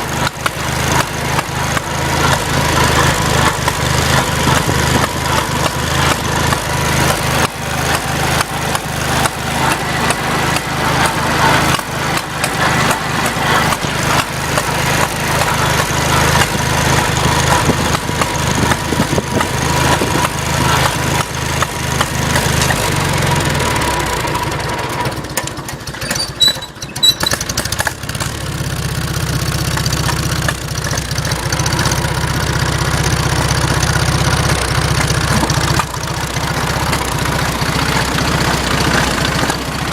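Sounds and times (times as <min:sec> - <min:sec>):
tractor engine popping: 0:00.0 - 0:39.9.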